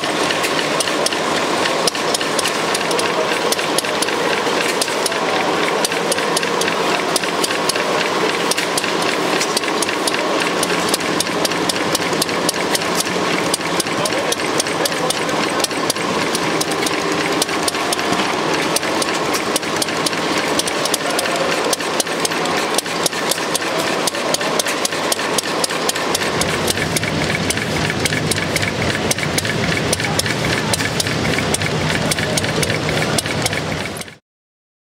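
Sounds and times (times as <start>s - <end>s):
deeper running sound: 0.0s - 34.2s
stationary engine clattering: 0.0s - 34.2s.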